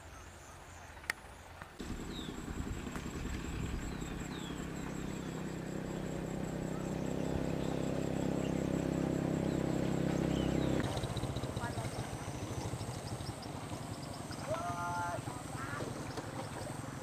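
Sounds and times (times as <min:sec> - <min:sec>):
motor engine running: 0:01.8 - 0:17.0.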